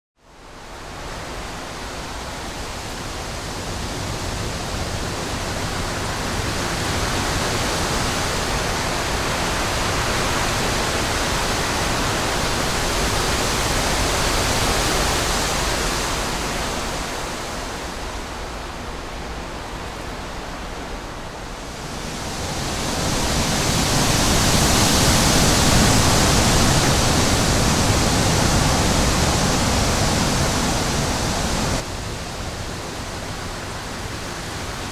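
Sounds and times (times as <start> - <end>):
continuous rushing noise: 0.2 - 34.9.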